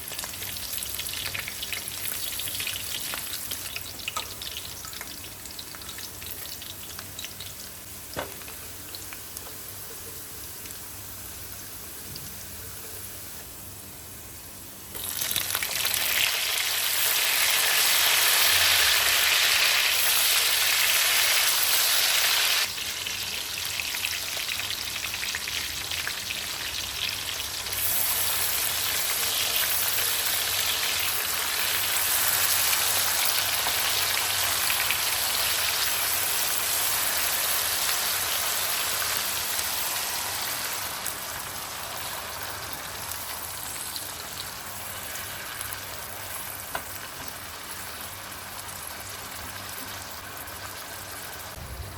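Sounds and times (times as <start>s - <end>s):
food sizzling in hot oil: 0.0s - 51.8s.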